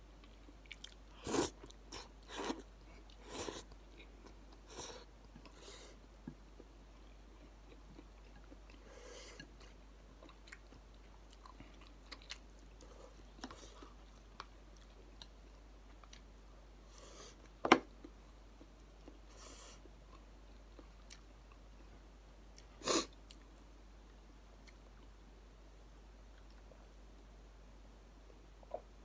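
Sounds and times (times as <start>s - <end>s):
soft chewing: 0.0s - 25.2s, 26.2s - 27.3s.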